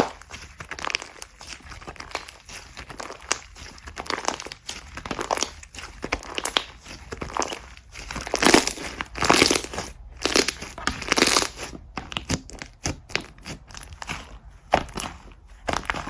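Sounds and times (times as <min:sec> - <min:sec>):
slime squishing by hand: 0:00.0 - 0:16.0.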